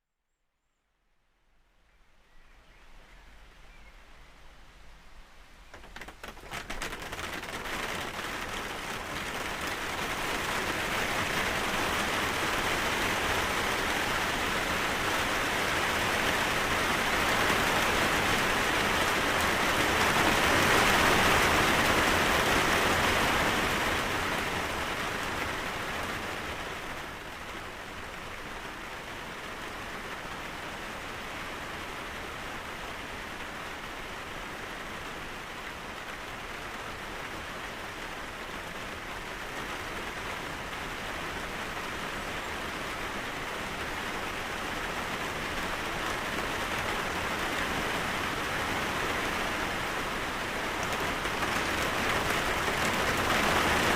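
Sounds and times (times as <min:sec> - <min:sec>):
steady rain falling: 0:01.7 - 0:53.9.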